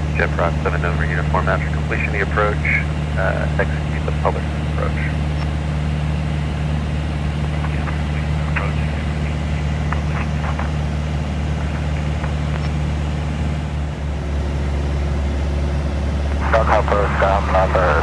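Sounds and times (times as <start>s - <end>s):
small aircraft engine drone: 0.0s - 18.0s.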